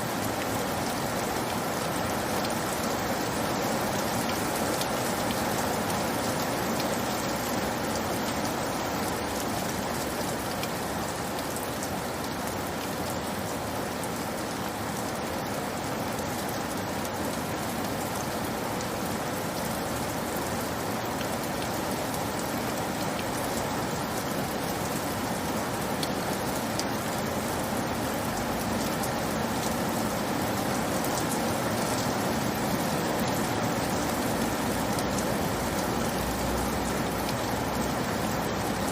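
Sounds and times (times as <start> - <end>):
rain drops ticking: 0.0 - 38.9
steady rain hiss: 0.0 - 38.9.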